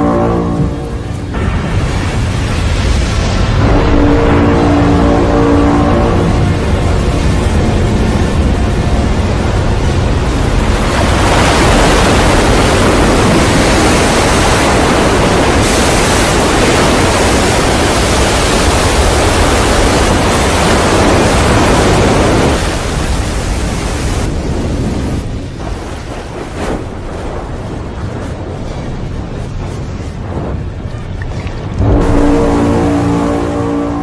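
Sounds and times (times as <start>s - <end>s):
loud steady rushing noise: 0.0s - 34.0s.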